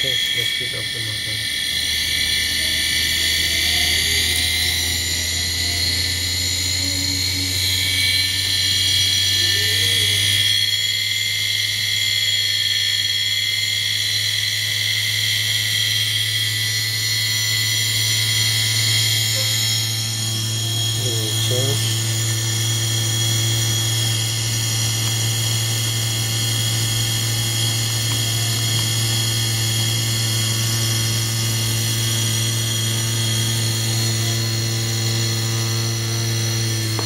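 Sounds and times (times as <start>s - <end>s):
hard disk motor humming: 0.0s - 37.0s
high whine: 0.0s - 37.0s.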